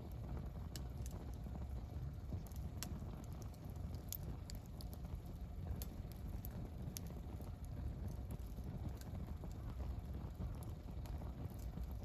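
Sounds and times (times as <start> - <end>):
campfire crackling and popping: 0.0 - 12.0
low steady rumble: 0.0 - 12.0.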